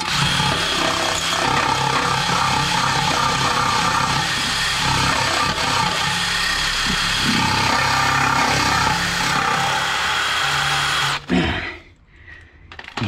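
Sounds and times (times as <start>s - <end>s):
cordless drill running: 0.0s - 11.3s.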